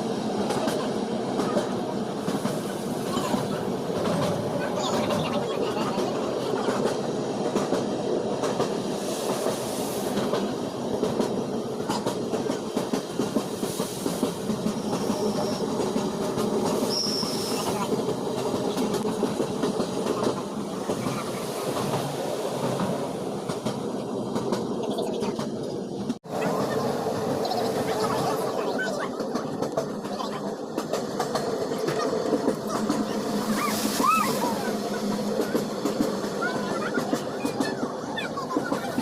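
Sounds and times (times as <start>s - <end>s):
train wheels clattering on rails: 0.0s - 39.0s.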